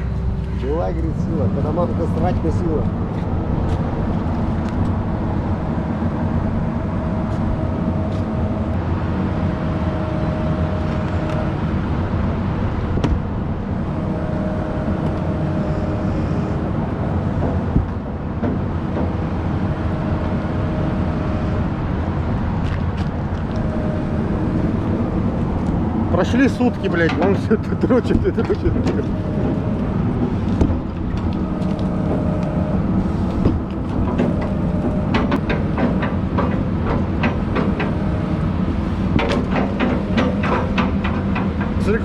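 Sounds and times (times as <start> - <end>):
machinery rumbling: 0.0 - 42.0.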